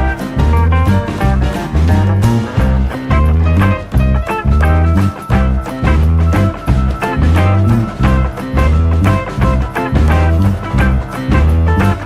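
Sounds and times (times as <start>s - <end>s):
upbeat guitar music with bass: 0.0s - 12.0s.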